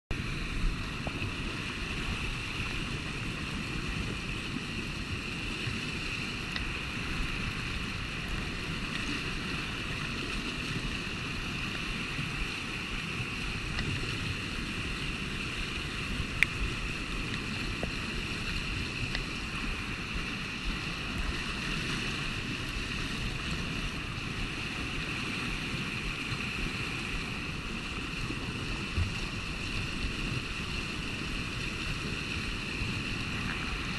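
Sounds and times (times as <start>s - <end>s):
river rushing through rapids: 0.1s - 33.9s.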